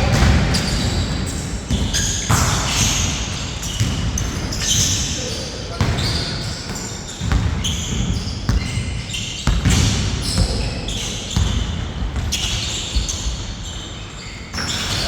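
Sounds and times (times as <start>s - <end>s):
basketball bouncing on hard court: 0.0s - 5.0s, 5.8s - 13.4s.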